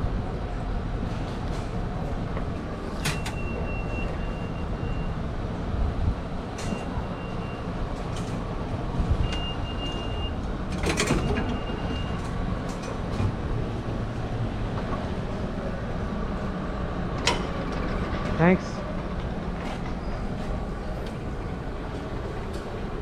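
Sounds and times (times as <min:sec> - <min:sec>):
low station rumble: 0:00.0 - 0:23.0.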